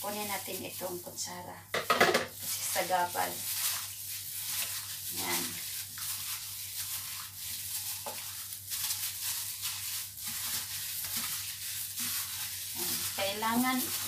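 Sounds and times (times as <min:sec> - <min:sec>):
gloved hands squishing raw chicken: 0:02.4 - 0:14.0.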